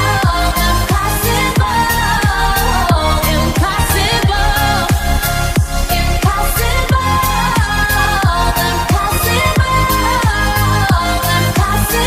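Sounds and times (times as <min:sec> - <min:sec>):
electronic dance pop music: 0:00.0 - 0:12.0.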